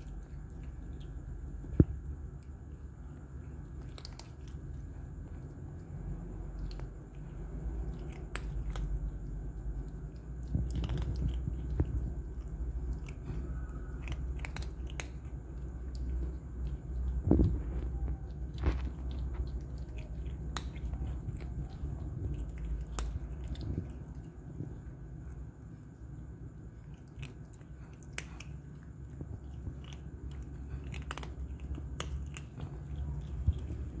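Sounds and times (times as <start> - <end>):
cats crunching dry kibble: 0.0 - 34.0
low background rumble: 0.0 - 34.0
steady low hum: 0.0 - 34.0.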